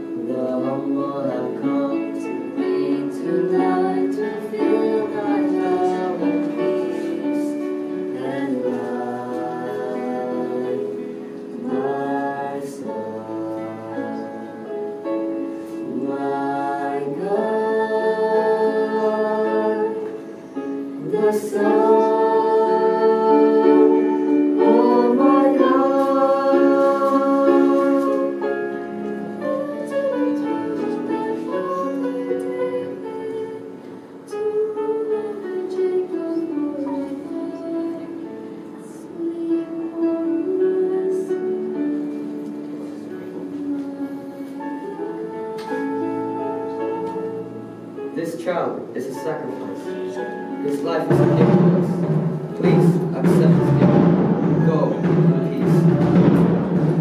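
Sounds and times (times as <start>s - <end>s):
voices singing in harmony: 0.0s - 57.0s.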